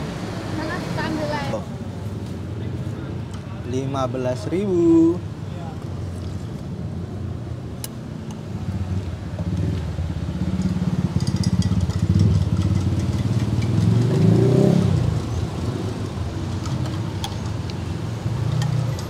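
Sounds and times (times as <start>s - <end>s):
motorcycle engines passing: 0.0s - 19.0s.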